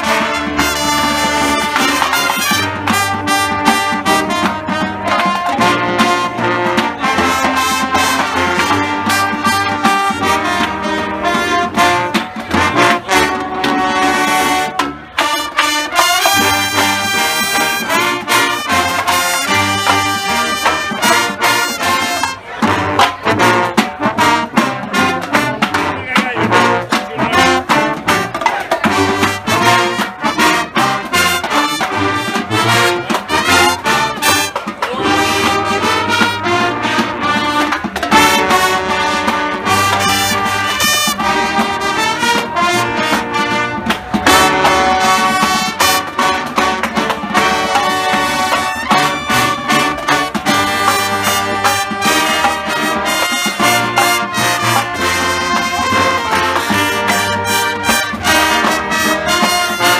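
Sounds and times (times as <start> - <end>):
brass playing chords: 0.0 - 59.9
drumline beat: 0.0 - 59.9.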